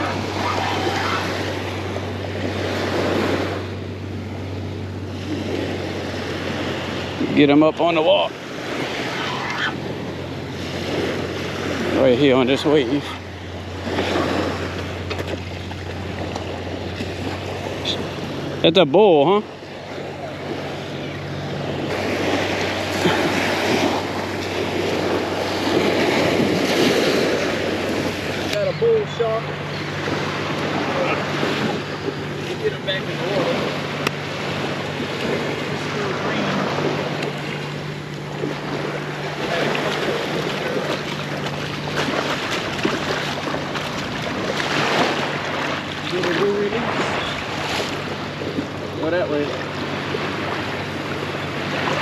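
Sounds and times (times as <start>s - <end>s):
seawater splashing and sloshing: 0.0s - 52.0s
small waves breaking on beach: 0.0s - 52.0s
steady low hum: 0.0s - 52.0s
wind buffeting microphone: 0.0s - 52.0s.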